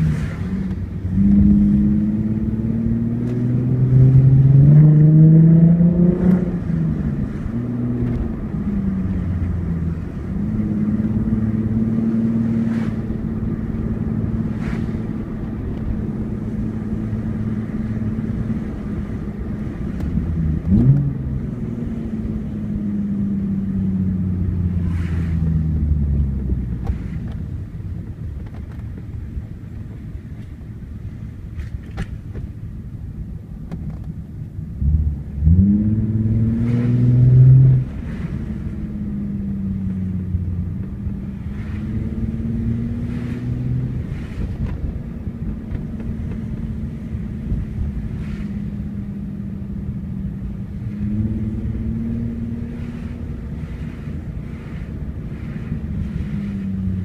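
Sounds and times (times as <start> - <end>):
car engine drone from cabin: 0.0 - 57.0.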